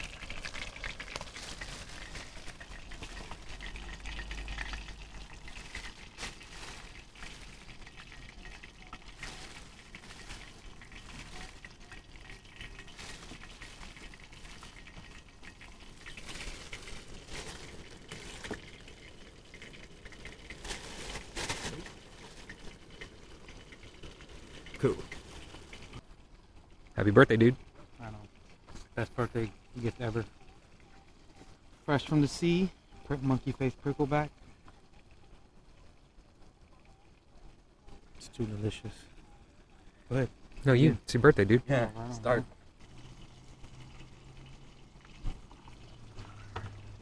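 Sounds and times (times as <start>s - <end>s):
fish frying in oil: 0.0s - 47.0s.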